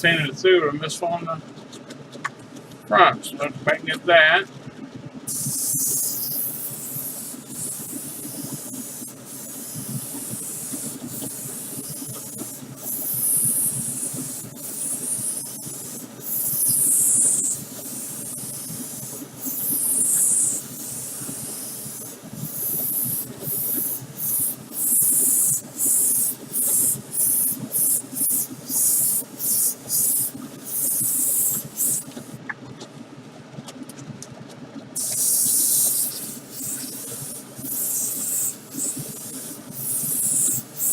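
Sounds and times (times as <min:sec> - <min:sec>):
spray paint hissing: 0:05.3 - 0:32.4, 0:35.0 - 0:40.9.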